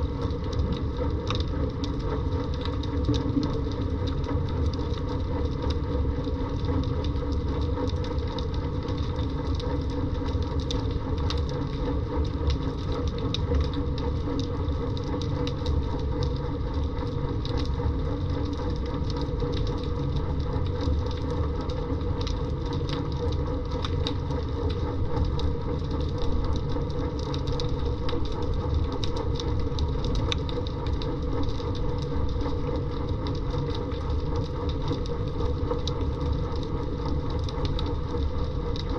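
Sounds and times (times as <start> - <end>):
underwater low rumble: 0.0 - 38.9.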